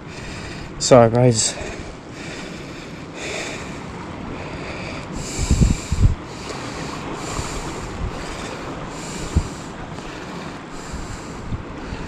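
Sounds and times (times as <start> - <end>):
surf on rocks: 0.0 - 12.0
wind buffeting microphone: 0.0 - 12.0.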